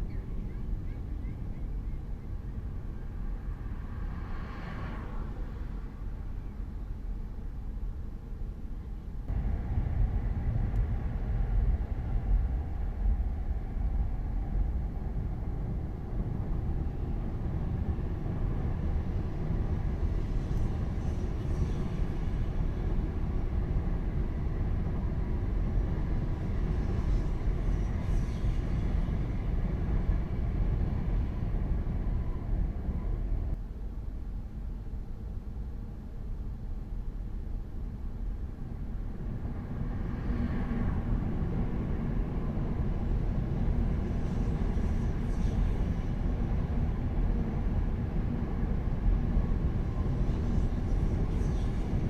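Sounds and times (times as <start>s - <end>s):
train running with rail noise: 0.0s - 52.0s.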